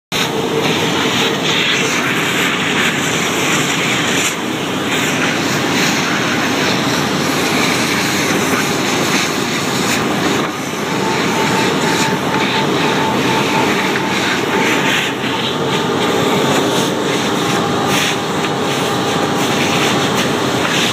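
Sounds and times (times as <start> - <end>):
vacuum cleaner roaring: 0.1 - 20.9.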